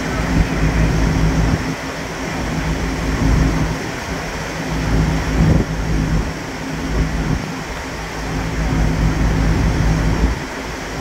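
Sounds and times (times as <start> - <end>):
machinery low hum: 0.0 - 11.0
wind buffeting microphone: 0.0 - 11.0.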